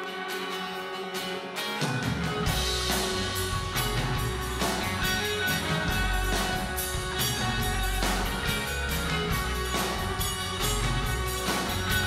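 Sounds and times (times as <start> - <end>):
guitars: 0.0 - 12.0
steady drum beat: 1.9 - 12.0
electric bass: 2.3 - 12.0.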